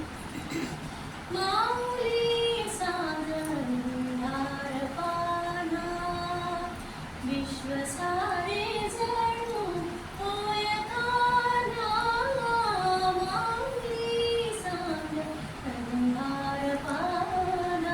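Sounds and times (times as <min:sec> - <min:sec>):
woman singing slow melody: 0:01.3 - 0:17.9.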